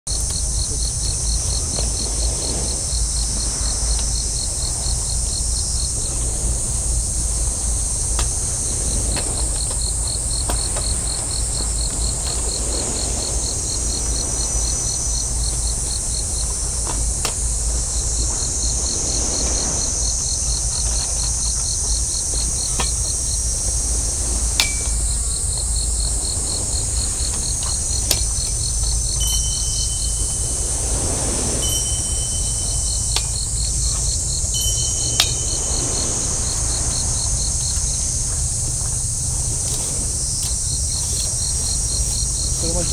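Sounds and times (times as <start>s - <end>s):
insect hiss: 0.1s - 42.9s
insects chirping: 0.1s - 42.9s
wind rumble on microphone: 0.1s - 42.9s.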